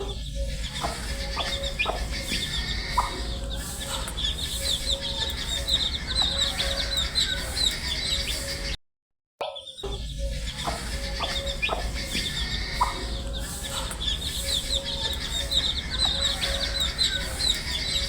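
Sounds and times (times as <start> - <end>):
baby chicks peeping: 0.0 - 8.8, 9.6 - 18.0.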